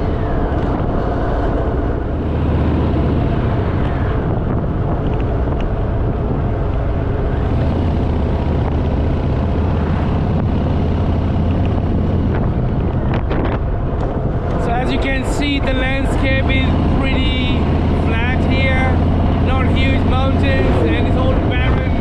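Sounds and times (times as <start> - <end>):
motorcycle engine cruising: 0.0 - 22.0
wind on microphone: 0.0 - 22.0.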